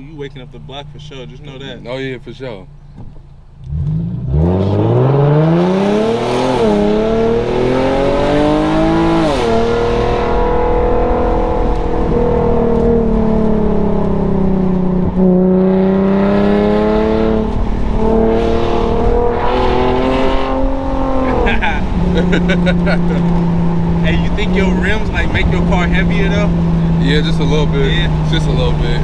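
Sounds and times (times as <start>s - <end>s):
car exhaust accelerating: 0.0s - 29.0s.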